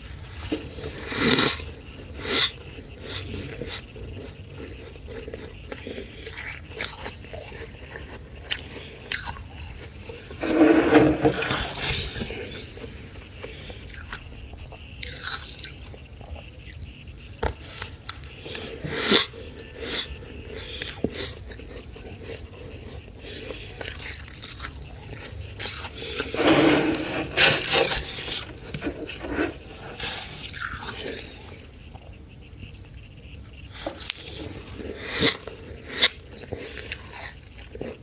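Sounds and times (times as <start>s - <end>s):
frost being scraped and chewed: 0.0s - 38.0s.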